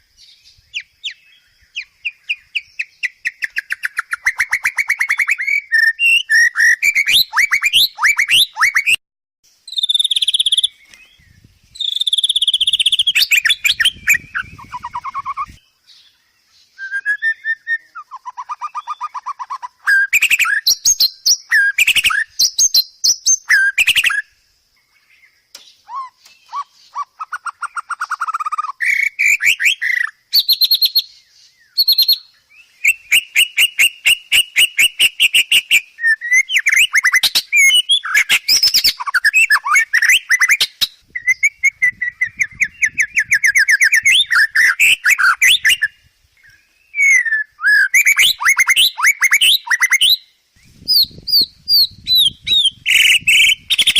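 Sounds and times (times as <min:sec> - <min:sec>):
songbird singing trills: 0:00.0 - 0:53.9.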